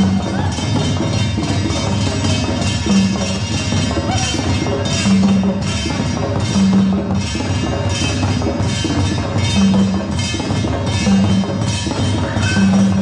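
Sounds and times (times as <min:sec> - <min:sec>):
steady percussion beat: 0:00.0 - 0:13.0.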